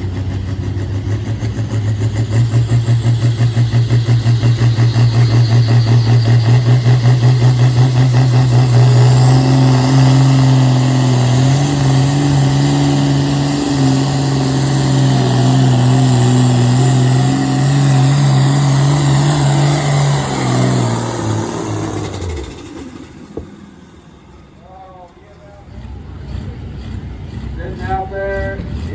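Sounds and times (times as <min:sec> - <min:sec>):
vehicle engine under hard load: 0:00.0 - 0:28.9.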